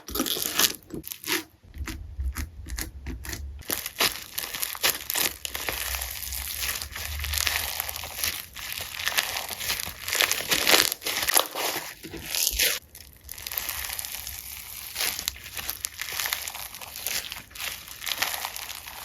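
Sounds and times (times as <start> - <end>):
slime crinkling and popping: 0.0 - 19.0.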